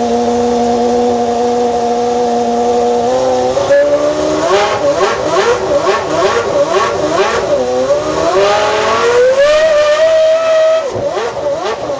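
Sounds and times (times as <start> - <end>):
racing car engine revving: 0.0 - 11.9.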